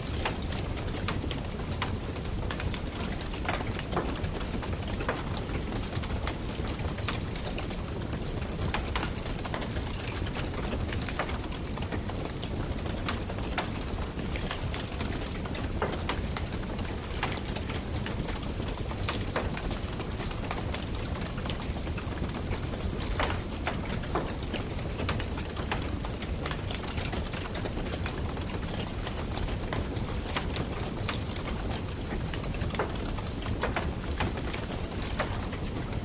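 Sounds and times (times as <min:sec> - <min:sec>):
wood campfire burning: 0:00.0 - 0:36.0
crackles and pops from burning wood: 0:00.1 - 0:36.0.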